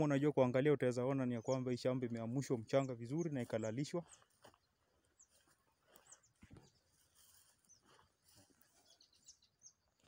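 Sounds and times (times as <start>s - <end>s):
faint bird chirps: 1.2s - 10.0s.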